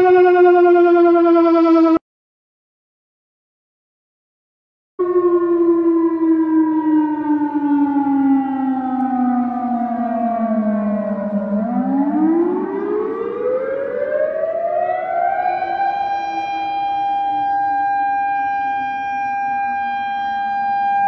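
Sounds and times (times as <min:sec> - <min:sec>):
warning siren: 0:00.0 - 0:02.0, 0:05.0 - 0:21.0.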